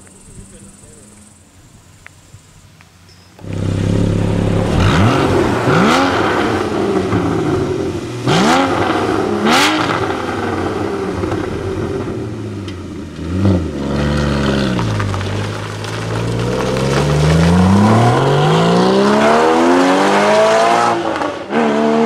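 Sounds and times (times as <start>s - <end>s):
car engine starting and idling: 0.0s - 21.7s
car pulling away: 3.3s - 22.0s.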